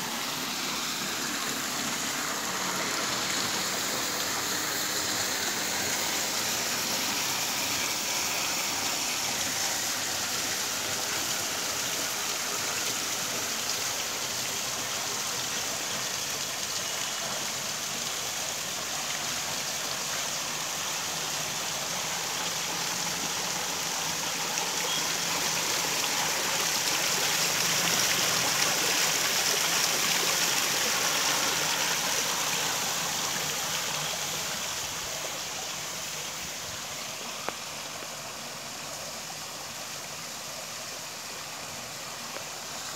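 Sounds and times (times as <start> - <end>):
waterfall splashing: 0.0 - 42.9.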